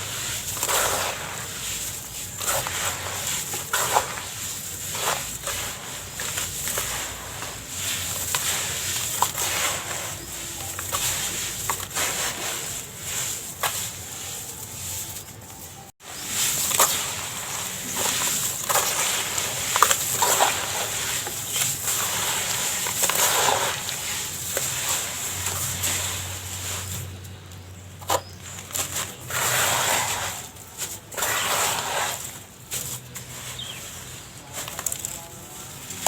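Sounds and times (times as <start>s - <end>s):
sand-cement shapes crumbling: 0.0s - 36.0s
trickling grit: 0.0s - 36.0s.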